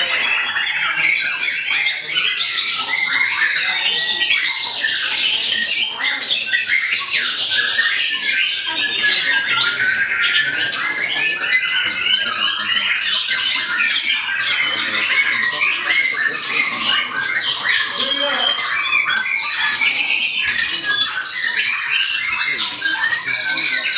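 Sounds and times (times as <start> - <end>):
songbirds singing: 0.0 - 23.9.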